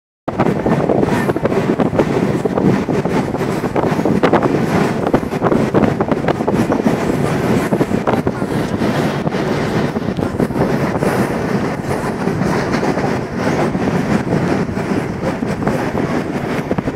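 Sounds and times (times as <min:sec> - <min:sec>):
train rumbling: 0:00.3 - 0:16.9
wheels clattering on rails: 0:00.3 - 0:16.9.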